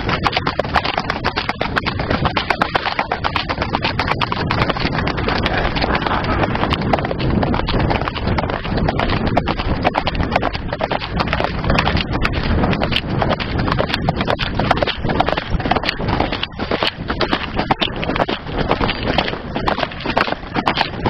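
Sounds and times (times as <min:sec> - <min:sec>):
horse hooves clip-clopping: 0:00.0 - 0:21.0
steady rushing noise: 0:00.0 - 0:21.0.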